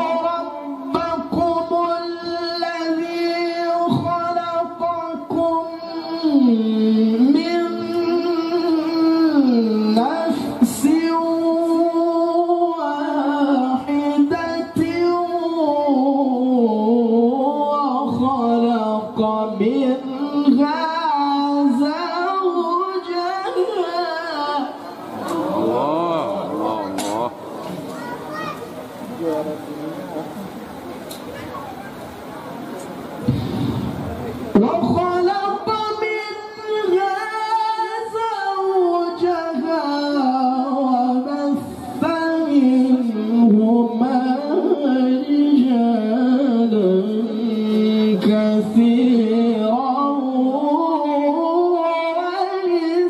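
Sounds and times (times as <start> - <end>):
young man reciting melodically: 0.0 - 30.7, 34.2 - 53.0.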